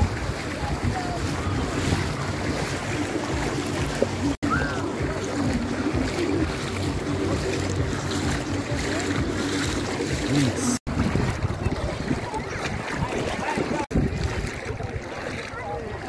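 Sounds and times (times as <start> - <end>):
faint voices: 0.0 - 16.0
shallow sea water washing: 0.0 - 16.0
wind buffeting microphone: 0.0 - 16.0.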